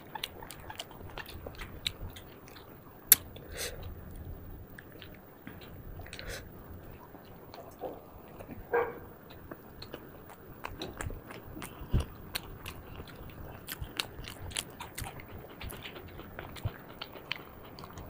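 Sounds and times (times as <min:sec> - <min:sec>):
wet chewing and lip smacking: 0:00.0 - 0:18.0.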